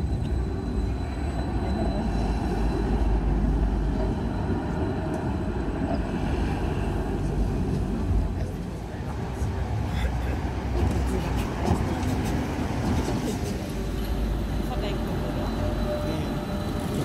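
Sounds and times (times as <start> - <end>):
tram rumbling past: 0.0 - 17.0.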